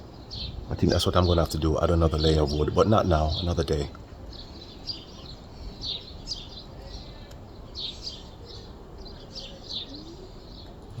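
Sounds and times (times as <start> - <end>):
faint outdoor background hum: 0.0 - 11.0
small birds chirping: 0.0 - 11.0.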